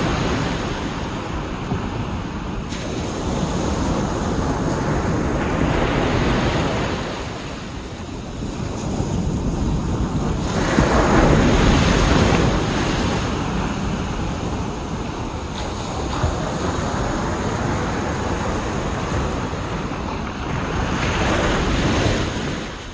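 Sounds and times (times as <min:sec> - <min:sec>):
ocean waves breaking on a beach: 0:00.0 - 0:22.9
wind rumbling on microphone: 0:00.0 - 0:22.9.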